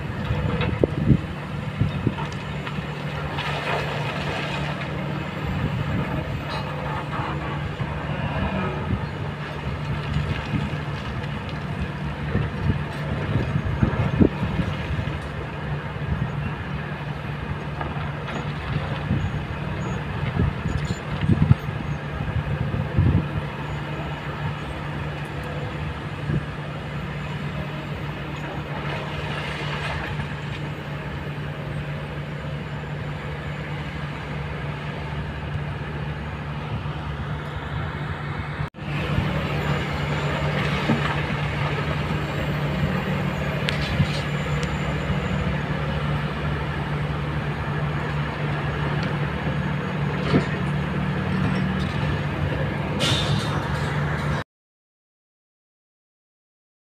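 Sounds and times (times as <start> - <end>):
excavator diesel engine running: 0.0 - 54.4.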